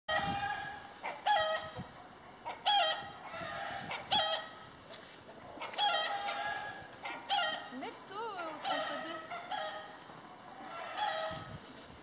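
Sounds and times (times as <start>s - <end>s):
chicken calling: 0.1s - 4.7s, 5.4s - 11.6s.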